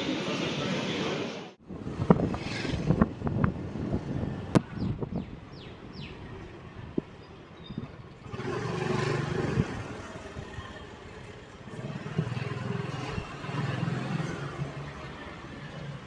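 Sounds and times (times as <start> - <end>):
motorbike engines in traffic: 0.0 - 16.0.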